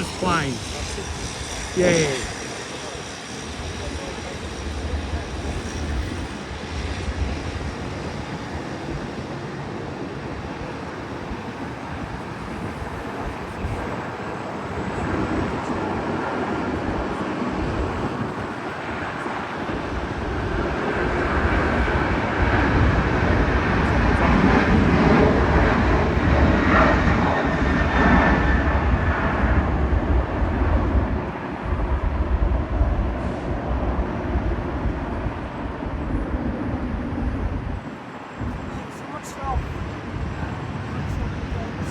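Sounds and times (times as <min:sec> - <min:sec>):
jet engines at takeoff power: 0:00.0 - 0:41.9.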